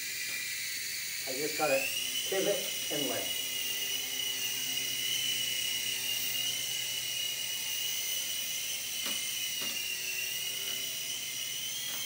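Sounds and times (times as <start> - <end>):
toy helicopter motor whine: 0.0 - 12.0.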